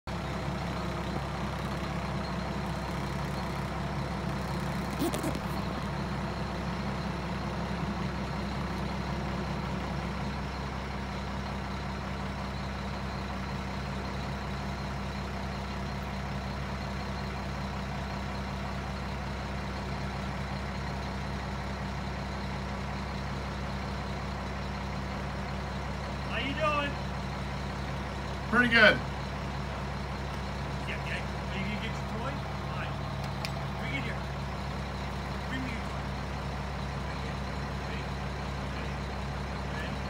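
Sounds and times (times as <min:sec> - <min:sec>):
garbage truck engine idling: 0:00.1 - 0:04.9, 0:05.5 - 0:40.0.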